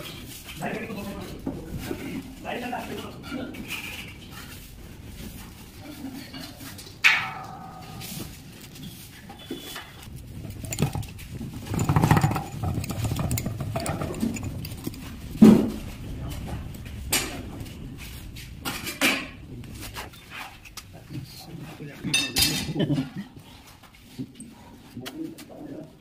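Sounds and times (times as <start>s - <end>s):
rough scraping: 0.0s - 24.3s.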